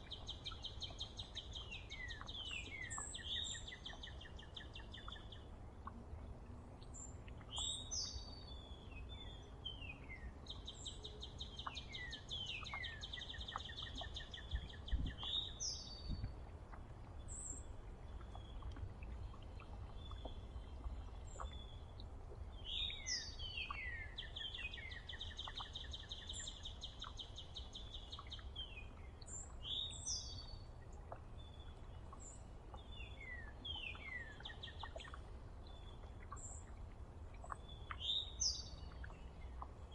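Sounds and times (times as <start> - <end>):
songbirds calling: 0.0 - 39.9.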